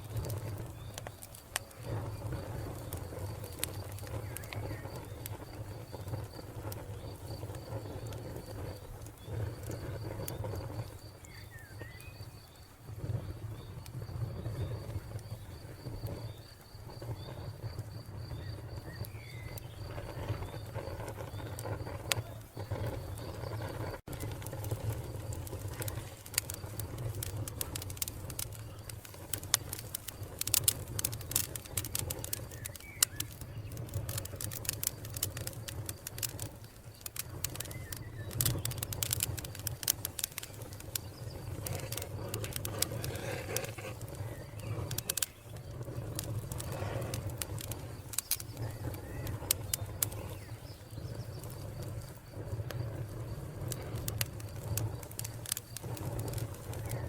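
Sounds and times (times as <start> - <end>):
wood fire crackling: 0.0 - 57.0
bird calling softly: 6.9 - 57.0.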